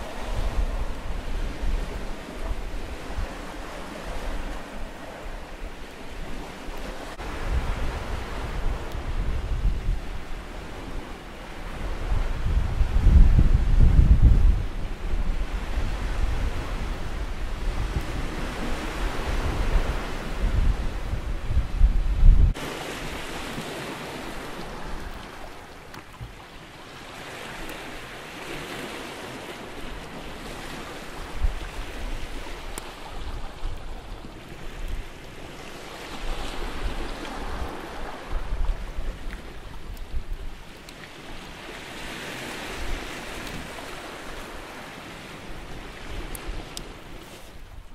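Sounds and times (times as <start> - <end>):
wind rumble on microphone: 0.0 - 26.4, 27.4 - 47.9
sea waves washing onto shore: 0.0 - 47.9.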